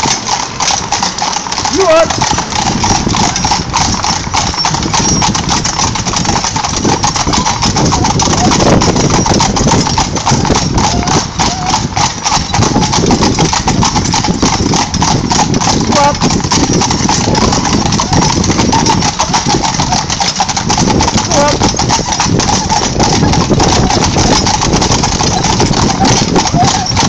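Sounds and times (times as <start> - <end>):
horse hooves clip-clopping on tarmac: 0.0 - 27.0.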